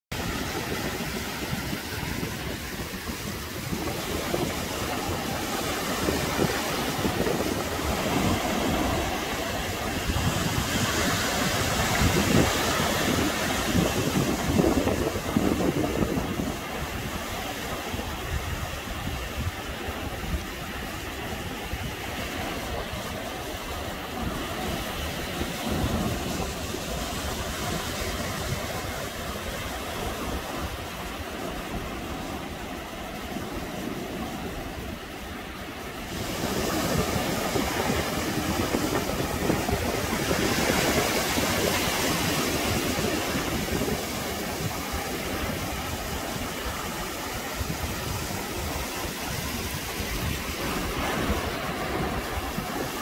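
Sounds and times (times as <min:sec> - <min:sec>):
small waves breaking on beach: 0:00.1 - 0:53.0
wind buffeting microphone: 0:00.1 - 0:53.0.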